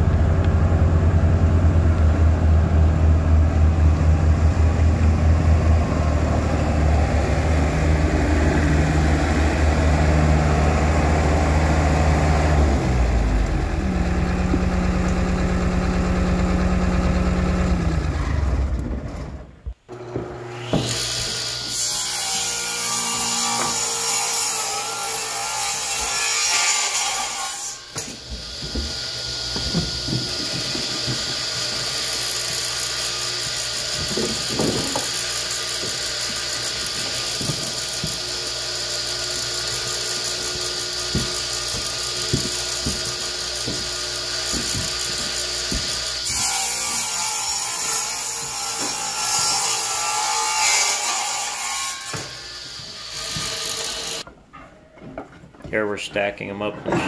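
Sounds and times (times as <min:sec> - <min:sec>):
radial arm saw cutting wood: 0:00.3 - 0:54.3.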